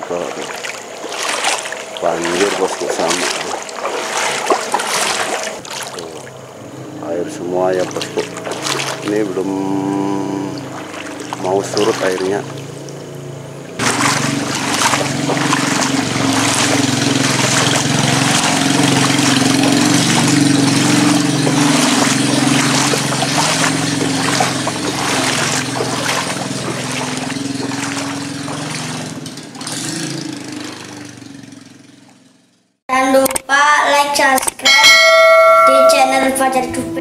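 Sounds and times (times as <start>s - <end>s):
water splashing from wading: 0.0s - 32.4s
low motor hum: 0.0s - 32.8s.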